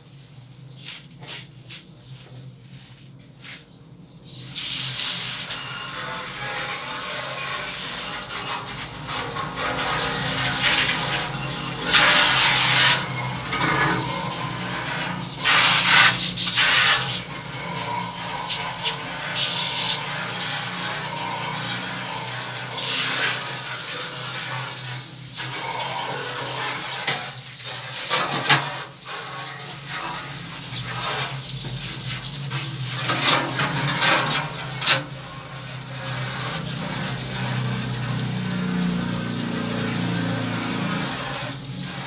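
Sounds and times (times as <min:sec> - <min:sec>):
running water splashing: 0:04.5 - 0:42.0.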